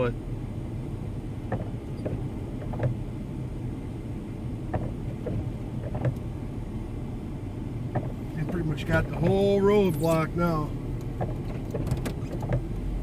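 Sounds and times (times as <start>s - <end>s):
vehicle engine idling rumble: 0.0s - 13.0s.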